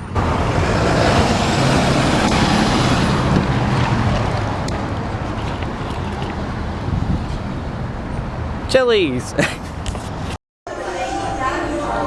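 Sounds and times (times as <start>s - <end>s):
road and wind noise: 0.0s - 10.4s.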